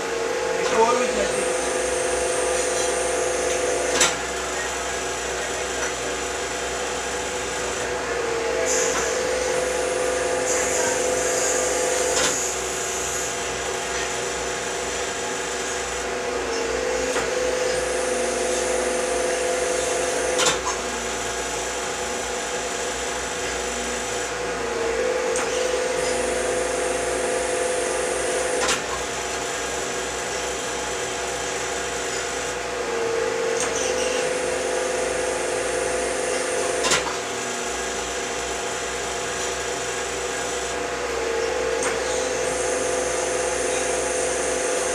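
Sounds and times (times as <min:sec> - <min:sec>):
hydraulic pump motor whine: 0:00.0 - 0:44.9.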